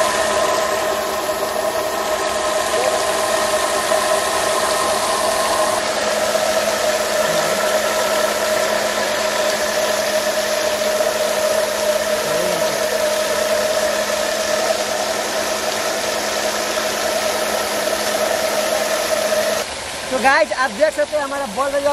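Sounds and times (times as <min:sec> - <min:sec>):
water spraying and splattering: 0:00.0 - 0:21.9
water turbine mechanical whine: 0:00.0 - 0:21.9.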